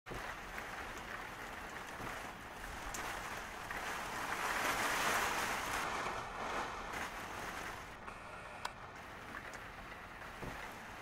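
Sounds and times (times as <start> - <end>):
rain hissing: 0.1 - 11.0.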